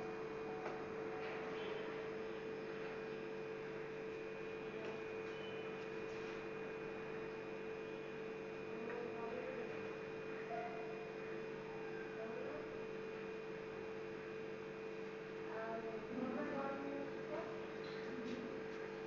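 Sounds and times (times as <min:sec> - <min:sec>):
electrical hum: 0:00.0 - 0:19.0
faint high whine: 0:00.0 - 0:19.0.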